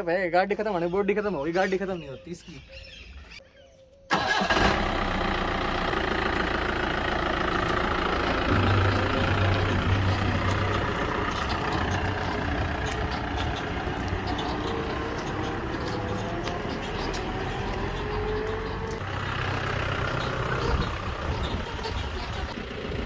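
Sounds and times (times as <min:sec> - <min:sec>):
pickup truck engine driving off: 0:04.1 - 0:23.0.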